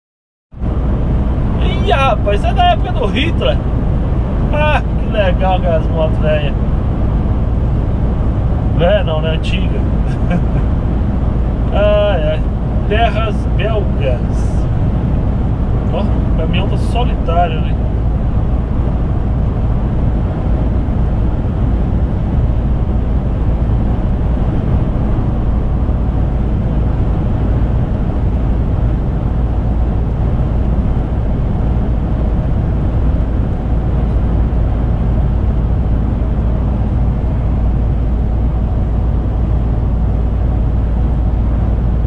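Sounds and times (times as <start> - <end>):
lorry cruising rumble: 0.6 - 42.0.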